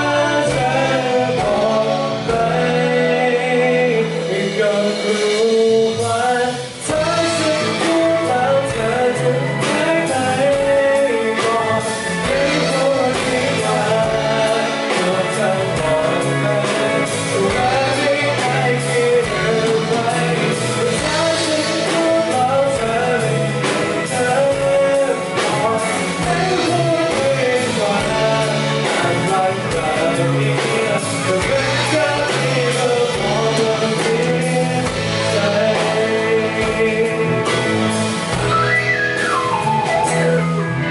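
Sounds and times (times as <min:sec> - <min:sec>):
drums: 0:00.0 - 0:40.9
guitar: 0:00.0 - 0:40.9
person singing: 0:00.0 - 0:40.9.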